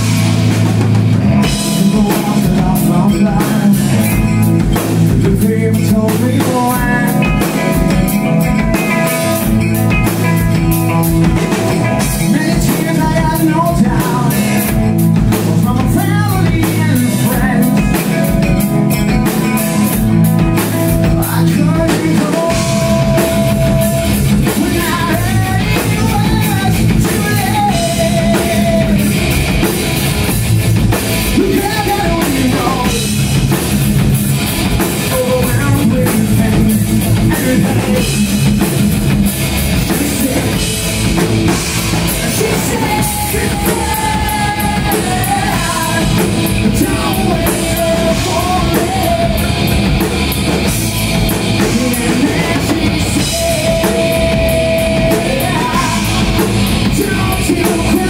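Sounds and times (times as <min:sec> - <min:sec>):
electric guitar lead notes: 0:00.0 - 0:58.0
rock band playing live: 0:00.0 - 0:58.0.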